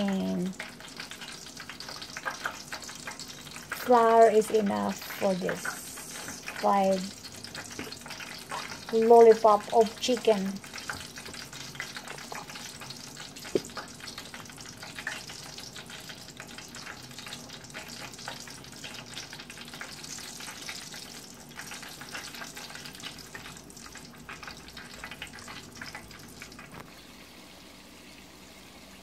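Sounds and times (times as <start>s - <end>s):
chicken frying in oil: 0.0s - 29.0s.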